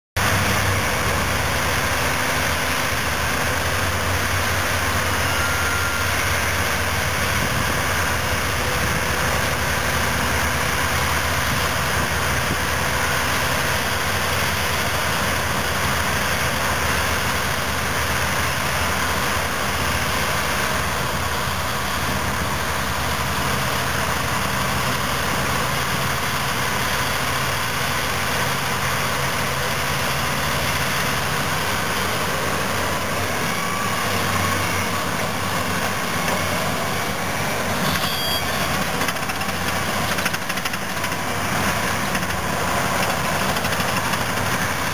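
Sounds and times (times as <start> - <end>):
heavy diesel engines under load: 0.2 - 44.9.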